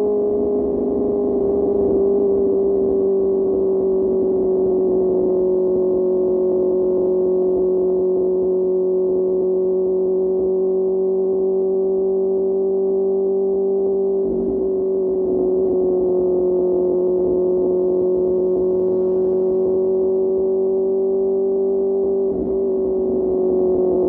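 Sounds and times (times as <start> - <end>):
motorcycle engine high-pitched drone: 0.0 - 24.0.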